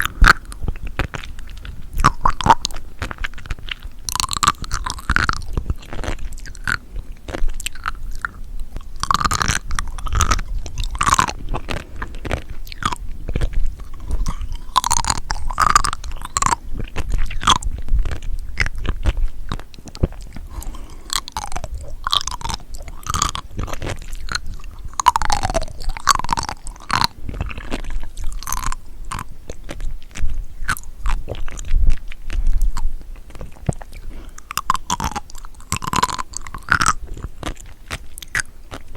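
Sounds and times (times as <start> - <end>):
close chewing sounds: 0.0 - 38.9.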